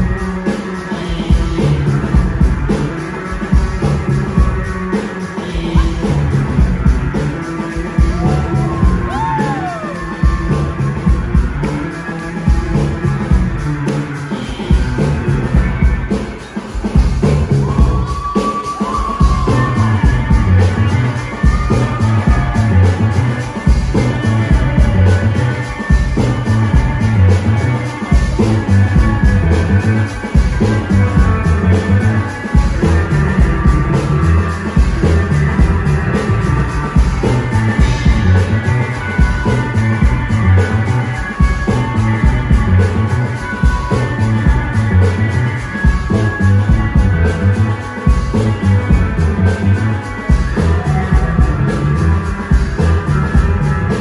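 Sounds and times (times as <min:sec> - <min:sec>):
bass guitar: 0:00.0 - 0:54.0
electric guitar lead: 0:00.0 - 0:54.0
steady drum beat: 0:00.0 - 0:54.0.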